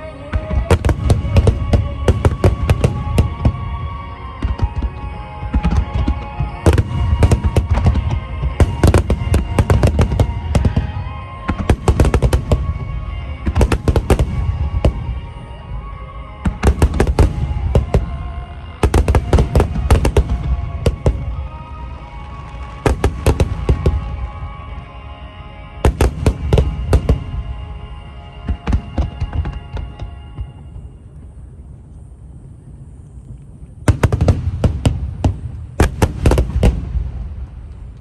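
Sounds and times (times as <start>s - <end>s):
fireworks bangs and crackles: 0.0s - 31.1s, 33.8s - 38.0s
music playing: 0.0s - 31.5s.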